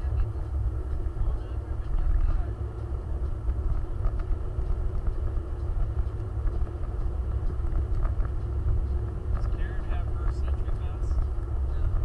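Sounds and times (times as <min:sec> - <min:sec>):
faint engine tone: 0:00.0 - 0:12.0
vehicle low rumble: 0:00.0 - 0:12.0.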